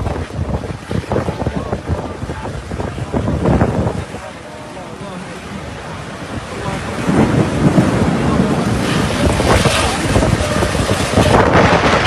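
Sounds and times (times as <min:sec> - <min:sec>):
thunder rumbling: 0:00.0 - 0:12.0
wind buffeting microphone: 0:00.0 - 0:12.0.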